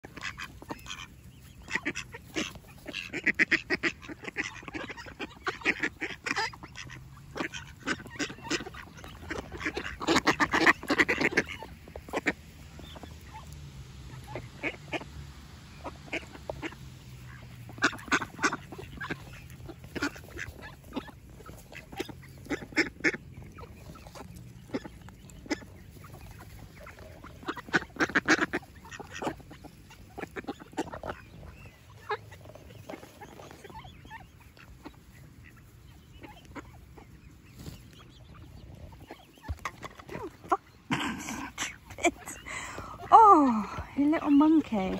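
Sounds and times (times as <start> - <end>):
ducks quacking: 0.0 - 44.9.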